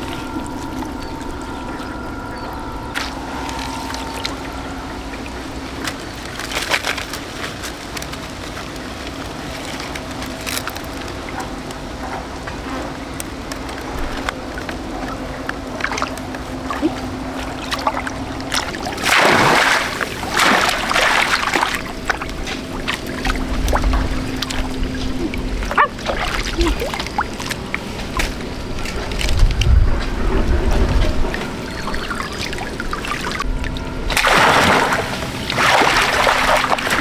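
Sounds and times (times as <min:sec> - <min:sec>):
steady low hum: 0:00.0 - 0:37.0
water sloshing and splashing: 0:00.0 - 0:37.0.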